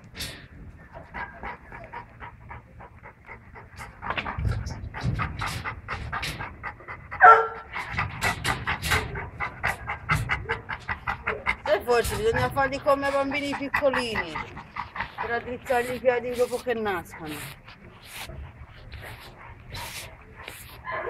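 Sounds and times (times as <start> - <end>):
puppy panting: 0.2 - 21.0.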